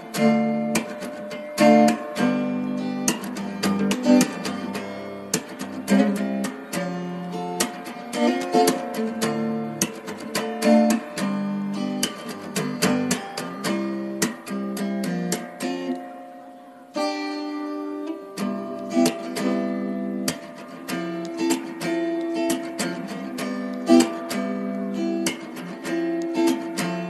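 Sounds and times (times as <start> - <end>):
acoustic guitar strummed and plucked: 0.0 - 27.0.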